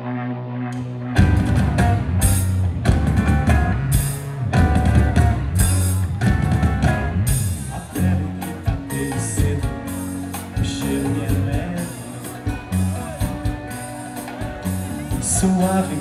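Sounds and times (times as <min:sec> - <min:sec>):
bass: 0:00.0 - 0:16.0
electric guitars: 0:00.0 - 0:16.0
keyboard: 0:00.0 - 0:16.0
drum kit beat: 0:01.1 - 0:16.0.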